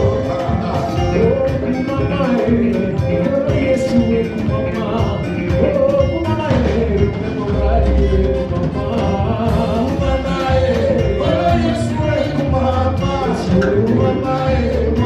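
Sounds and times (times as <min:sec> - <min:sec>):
gospel band with singing: 0:00.0 - 0:15.0
steady bass: 0:00.0 - 0:15.0.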